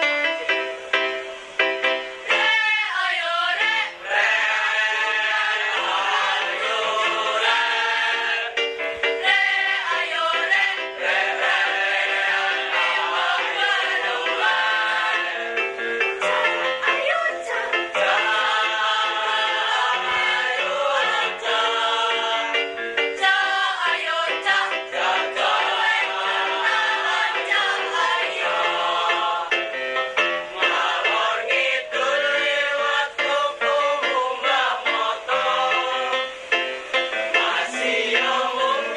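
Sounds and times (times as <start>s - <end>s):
children's choir singing: 2.2s - 15.9s, 16.7s - 38.9s.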